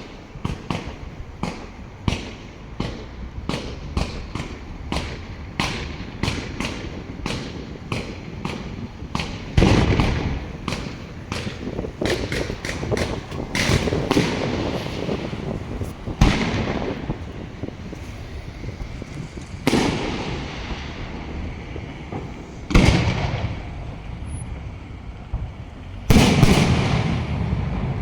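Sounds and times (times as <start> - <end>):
fireworks bangs: 0.0 - 28.0
loud firework booms: 0.0 - 28.0.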